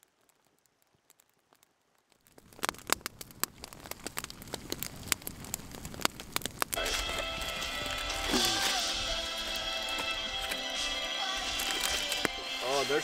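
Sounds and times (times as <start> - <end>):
kindling fire crackling and snapping: 0.0 - 13.0.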